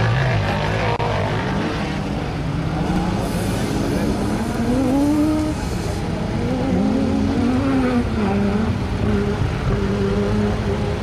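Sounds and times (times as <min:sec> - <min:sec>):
race car engine running: 0:00.0 - 0:11.0.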